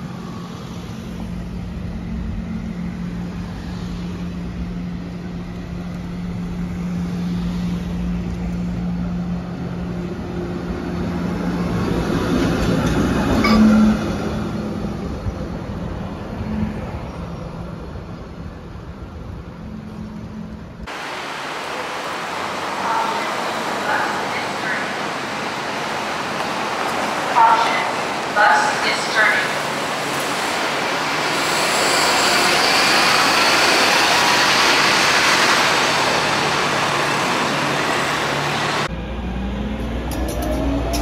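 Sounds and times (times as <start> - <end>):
street traffic: 0.0 - 41.0
trolley humming along track: 0.0 - 41.0.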